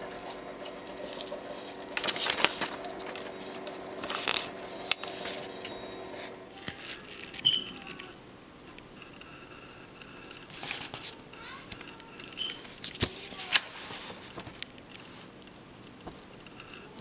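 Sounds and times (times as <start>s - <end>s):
paper rustling: 0.0s - 8.2s, 9.2s - 17.0s
printer humming: 0.0s - 17.0s.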